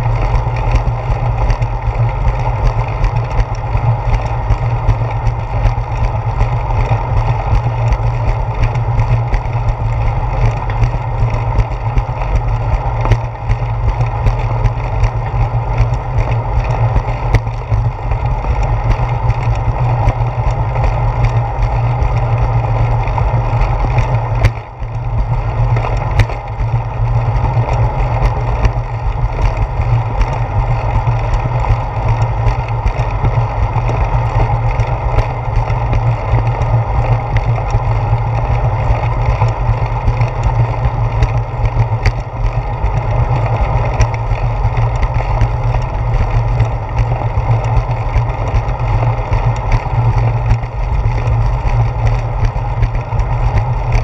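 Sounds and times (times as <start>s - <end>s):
bicycle wheel ticks and knocks: 0.0s - 54.0s
wind and road rumble: 0.0s - 54.0s.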